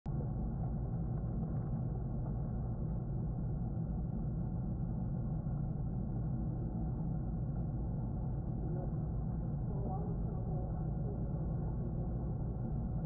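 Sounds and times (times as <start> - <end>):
aquarium equipment rumble: 0.1 - 13.0.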